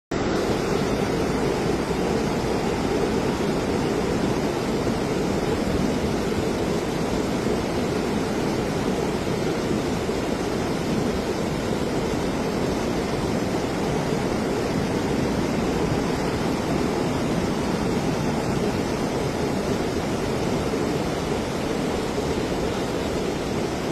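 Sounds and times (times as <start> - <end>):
torrent of water rushing: 0.1 - 23.9.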